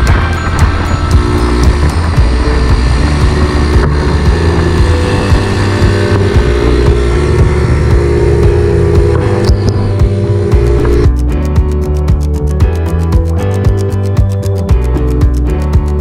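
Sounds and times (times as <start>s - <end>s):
background music with steady beat: 0.0s - 16.0s
low droning bass: 0.0s - 16.0s.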